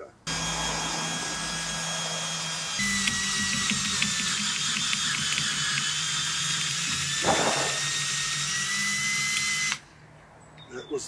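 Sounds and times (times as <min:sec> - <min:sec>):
drill cutting through metal: 0:00.3 - 0:09.8
harsh grinding burst: 0:00.3 - 0:09.8.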